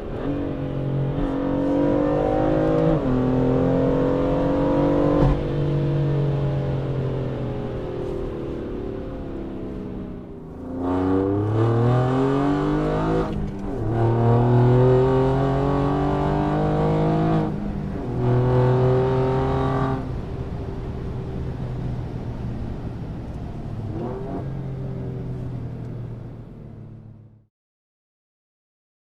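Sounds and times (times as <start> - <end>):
sports car engine accelerating: 0.0 - 27.5.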